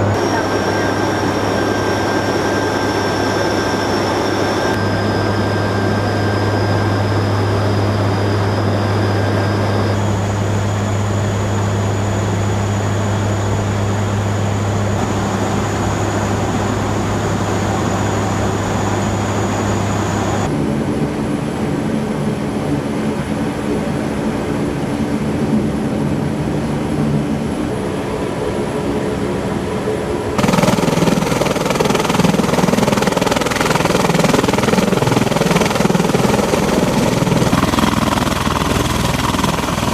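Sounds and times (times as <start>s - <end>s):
aircraft engines and rotors running: 0.0s - 39.9s.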